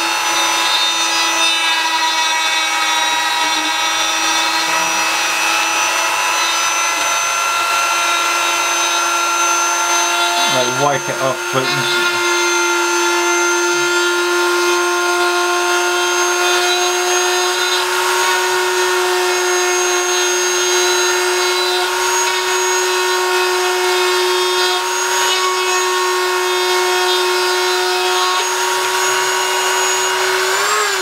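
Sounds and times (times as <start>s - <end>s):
rotary tool whining: 0.0s - 31.0s.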